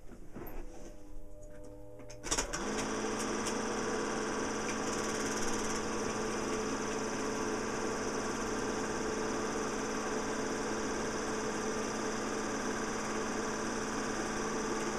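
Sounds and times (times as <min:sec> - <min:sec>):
film projector whirring: 0:02.0 - 0:14.9.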